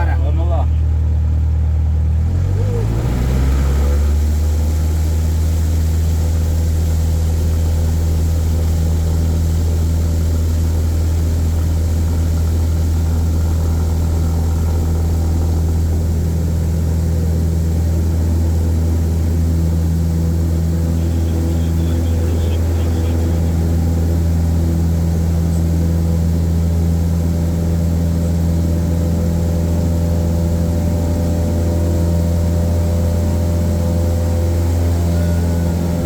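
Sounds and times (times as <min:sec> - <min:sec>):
propeller aeroplane engine drone: 0:00.0 - 0:36.0.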